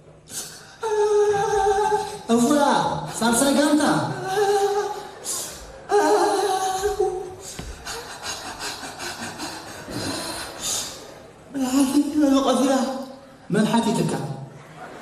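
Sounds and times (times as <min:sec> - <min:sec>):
soft voices: 0:00.2 - 0:12.6.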